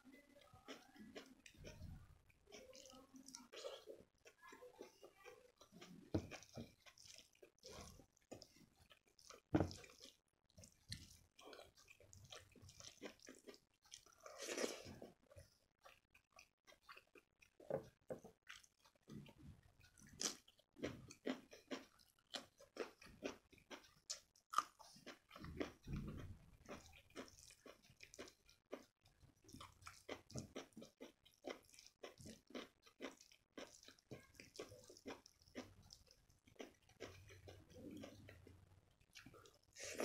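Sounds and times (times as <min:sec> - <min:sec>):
fingers squishing rice and curry: 0:00.1 - 0:40.0
person chewing food: 0:00.4 - 0:40.0.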